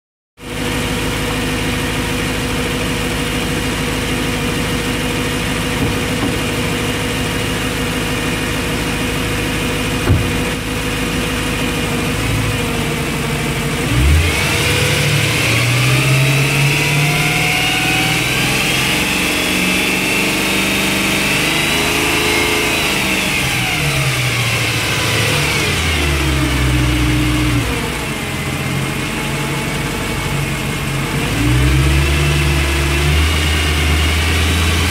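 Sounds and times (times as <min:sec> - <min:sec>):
car engine idling and revving: 0:00.4 - 0:34.9.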